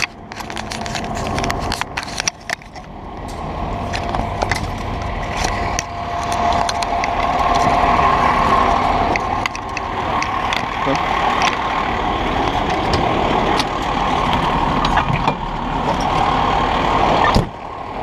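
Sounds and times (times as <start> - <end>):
diesel engine running: 0.0 - 18.0
steady high whine: 0.0 - 18.0.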